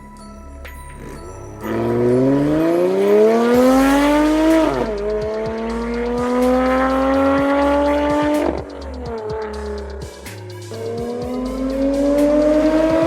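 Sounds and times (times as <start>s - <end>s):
sports car engine accelerating: 0.9s - 13.0s.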